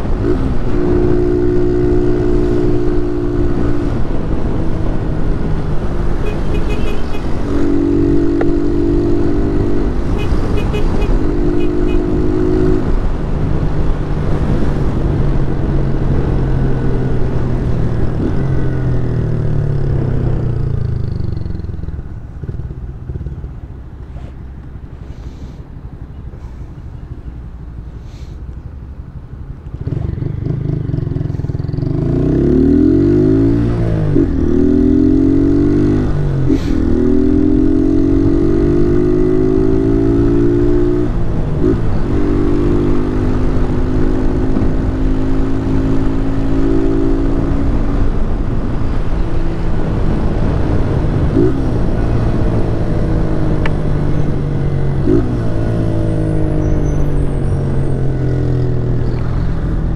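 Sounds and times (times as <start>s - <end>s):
motorcycle engine accelerating: 0.0s - 24.9s, 29.2s - 59.9s.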